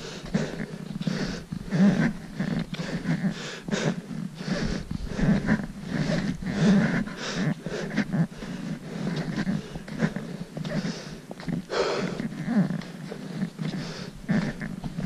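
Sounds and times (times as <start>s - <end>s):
person breathing: 0.0s - 15.0s.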